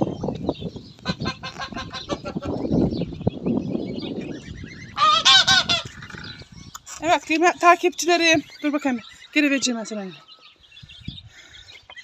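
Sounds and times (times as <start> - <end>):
chickens clucking: 0.0 - 12.0
chickens squawking: 0.0 - 12.0.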